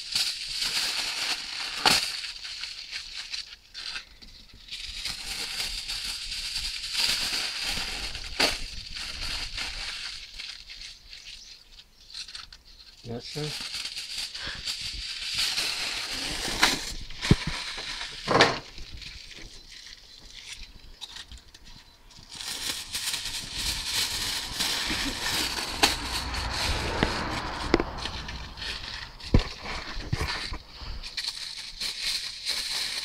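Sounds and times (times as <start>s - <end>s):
aluminium foil crinkling: 0.0s - 33.0s.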